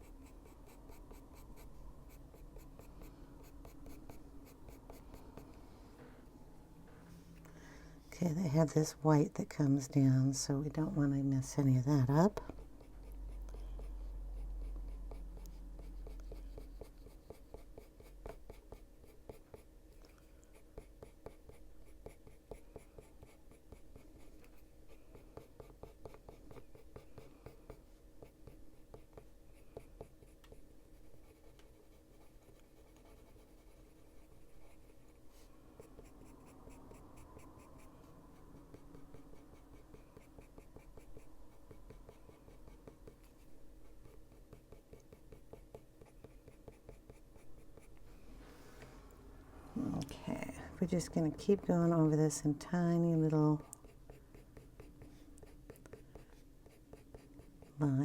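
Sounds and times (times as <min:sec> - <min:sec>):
pencil scratching on paper: 0:00.0 - 0:05.5, 0:09.6 - 0:19.8, 0:20.5 - 0:48.0, 0:52.8 - 0:58.0.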